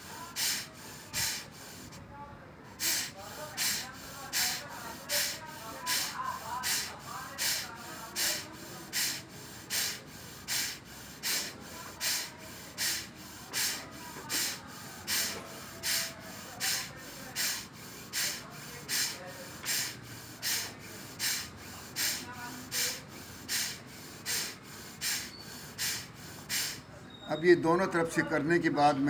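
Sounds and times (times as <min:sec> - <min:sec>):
hissing nasal exhalations: 0:00.0 - 0:02.0, 0:02.7 - 0:26.9.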